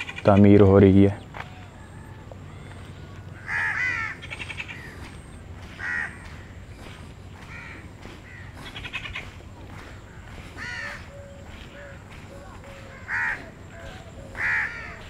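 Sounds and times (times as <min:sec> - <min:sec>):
birds cawing: 0:00.0 - 0:15.0.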